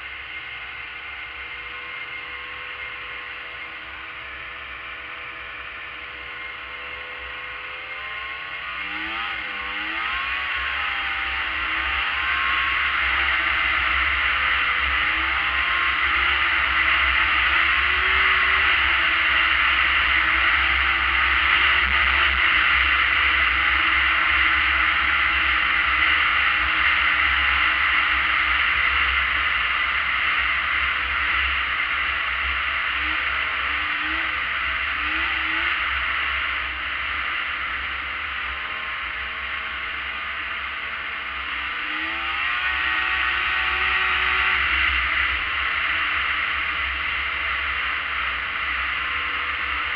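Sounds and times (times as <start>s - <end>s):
snowmobile engine running: 0.0s - 49.9s.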